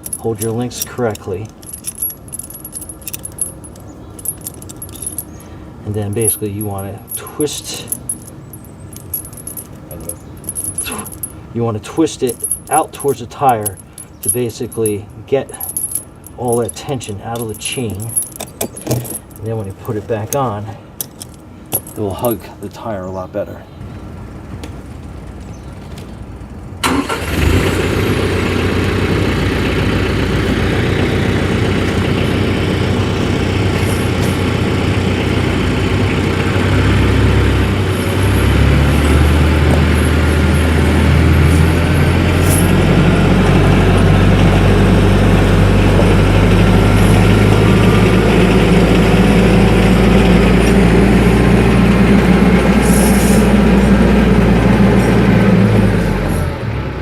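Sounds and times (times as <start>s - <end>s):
diesel tractor engine running: 0.0s - 15.3s, 24.0s - 57.0s.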